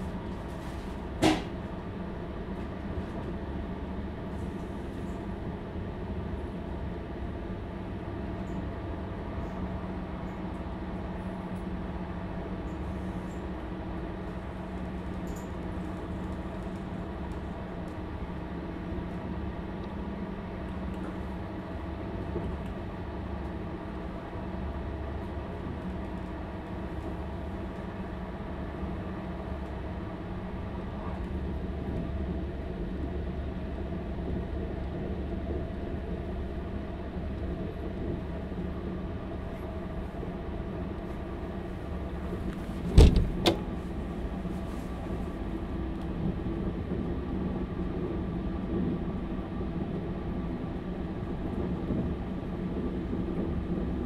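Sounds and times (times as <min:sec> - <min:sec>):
train diesel engine drone: 0:00.0 - 0:54.0
train running noise: 0:00.0 - 0:54.0.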